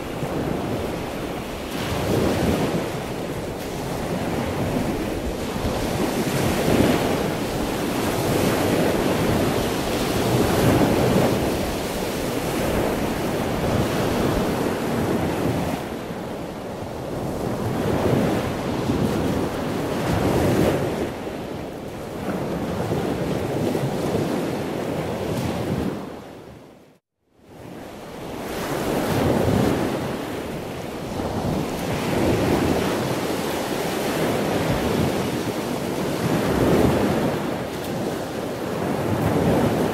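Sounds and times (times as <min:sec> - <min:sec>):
waves washing in: 0:00.0 - 0:26.4, 0:27.5 - 0:39.9
wind: 0:00.0 - 0:39.9.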